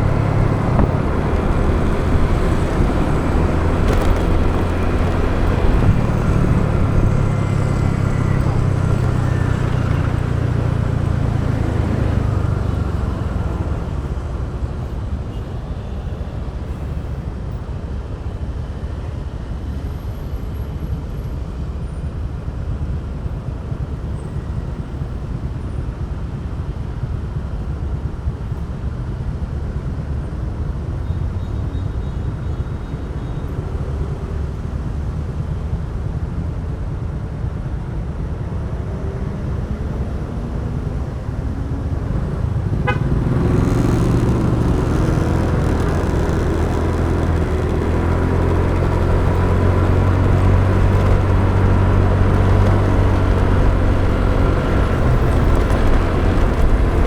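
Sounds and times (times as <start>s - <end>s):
motorbike engine and road rumble: 0.0s - 57.0s.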